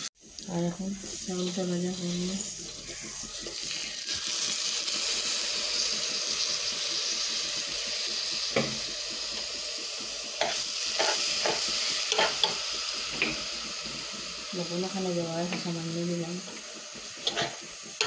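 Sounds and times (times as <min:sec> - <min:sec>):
rice sizzling in hot pot: 0:00.0 - 0:18.0.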